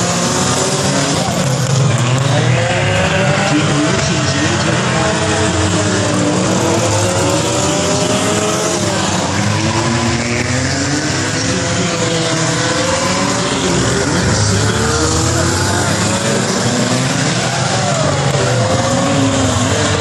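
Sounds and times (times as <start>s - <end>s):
race car engines revving: 0.0s - 20.0s
tires squealing: 0.0s - 20.0s.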